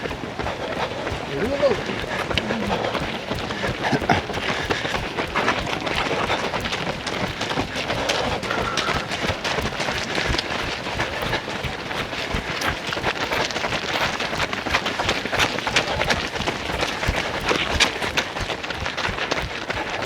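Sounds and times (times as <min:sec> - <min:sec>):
runners' footsteps: 0:00.0 - 0:20.0.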